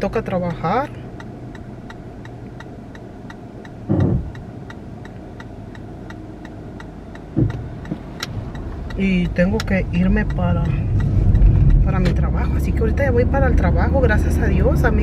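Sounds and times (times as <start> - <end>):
car engine idling: 0.0 - 15.0
light regular ticking: 0.0 - 15.0.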